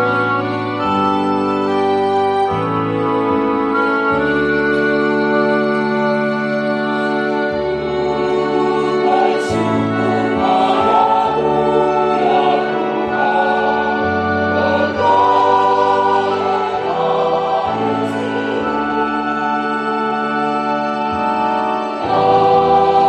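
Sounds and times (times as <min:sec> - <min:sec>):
choir singing a hymn: 0:00.0 - 0:23.0
electronic keyboard chords: 0:00.0 - 0:23.0.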